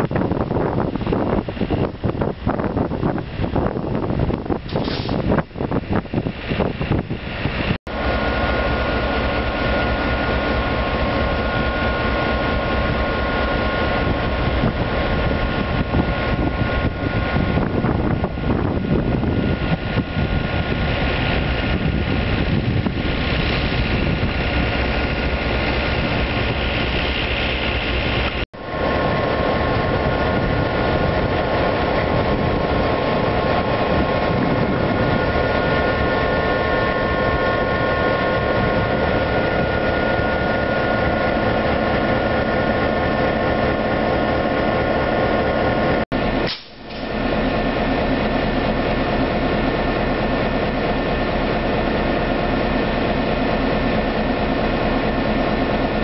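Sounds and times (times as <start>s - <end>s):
high steady whine: 0.0s - 56.0s
locomotive engine idling: 7.2s - 56.0s.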